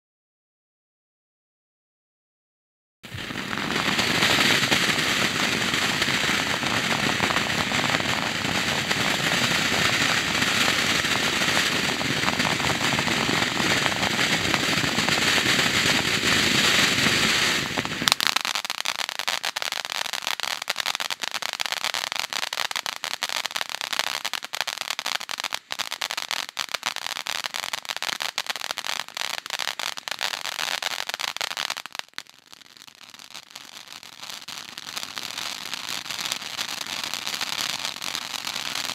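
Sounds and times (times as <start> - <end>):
firework crackling: 3.0 - 38.9
firework fountain hissing: 3.1 - 38.9.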